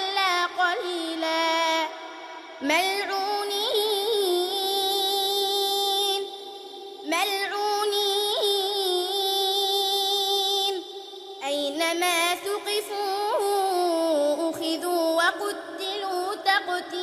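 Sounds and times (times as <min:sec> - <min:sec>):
girl chanting recitation: 0:00.0 - 0:17.0.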